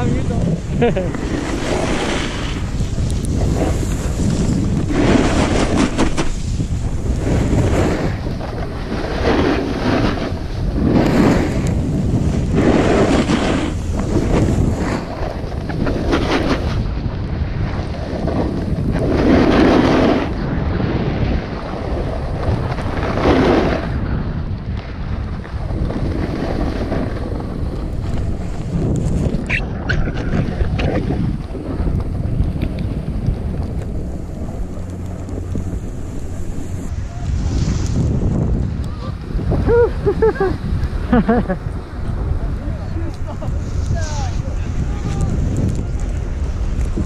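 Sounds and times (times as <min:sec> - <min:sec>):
snowboard scraping packed snow: 0:00.0 - 0:47.0
wind buffeting microphone: 0:00.0 - 0:47.0.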